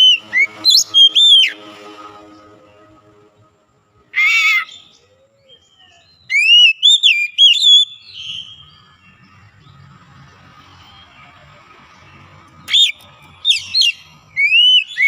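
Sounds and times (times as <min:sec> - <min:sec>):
bird singing whistled notes: 0:00.0 - 0:01.9, 0:04.1 - 0:15.0.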